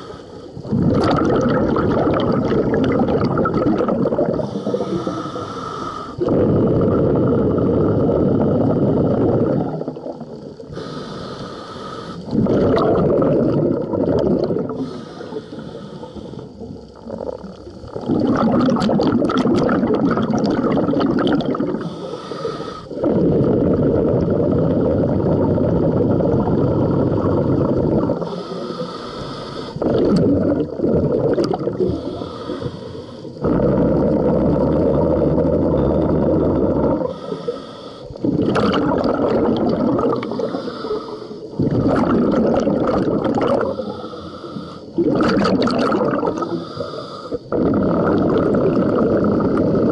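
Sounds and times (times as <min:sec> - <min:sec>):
regulator hiss on inhalation: 0:00.0 - 0:00.8, 0:01.7 - 0:18.0, 0:18.6 - 0:45.1, 0:46.2 - 0:49.9
diver exhaling bubbles: 0:00.0 - 0:49.9.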